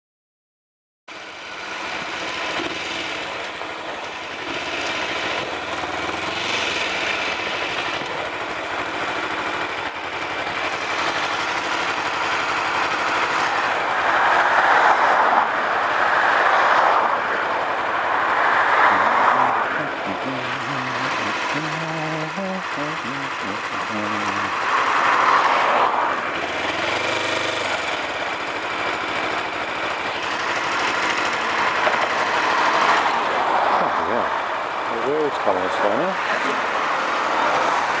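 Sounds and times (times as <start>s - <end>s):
motorcycle engine running: 1.1s - 14.5s, 17.2s - 38.0s
wind and road noise: 1.1s - 38.0s.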